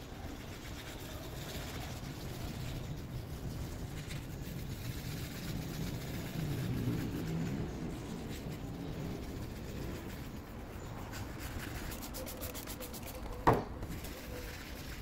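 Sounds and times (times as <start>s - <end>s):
wet-sanding plastic rubbing: 0.0s - 15.0s.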